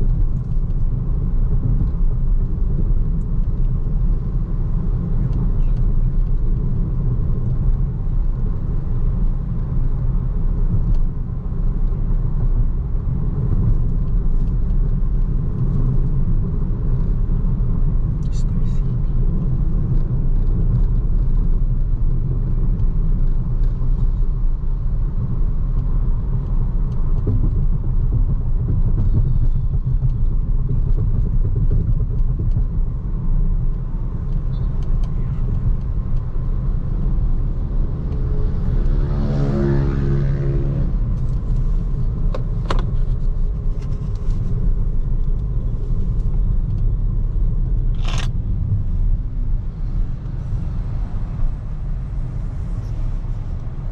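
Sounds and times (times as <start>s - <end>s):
road and tyre noise: 0.0s - 53.9s.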